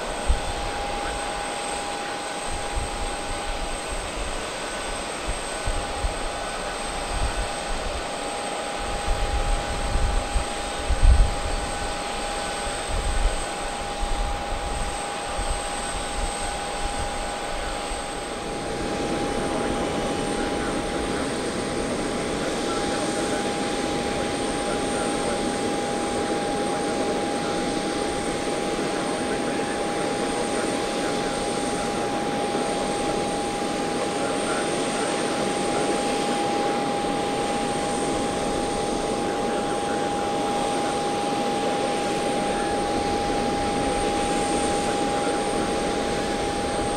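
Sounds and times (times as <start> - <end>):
jet engine whine and rush: 0.0 - 46.9.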